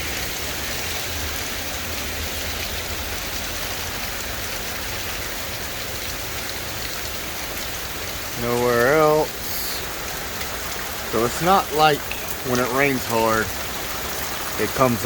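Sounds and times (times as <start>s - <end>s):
heavy rain falling: 0.0s - 15.0s
roof runoff pouring and dripping: 0.0s - 15.0s.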